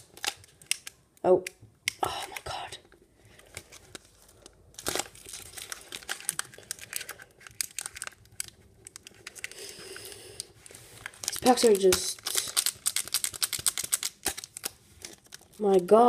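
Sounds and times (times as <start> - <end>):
foil wrapper crinkling: 0.0 - 1.0, 3.4 - 15.8.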